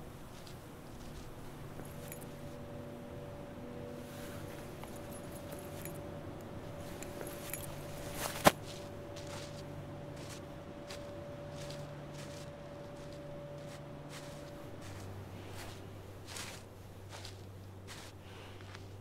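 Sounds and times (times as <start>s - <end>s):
low steady hum: 0.0s - 19.0s
faint rustles: 0.2s - 19.0s.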